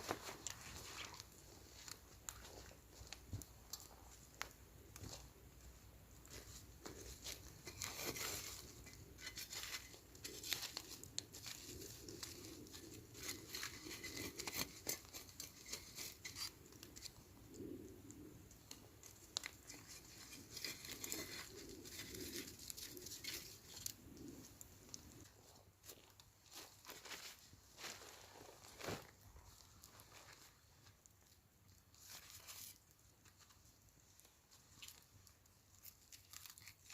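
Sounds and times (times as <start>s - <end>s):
rustling and crinkling: 0.0s - 36.9s.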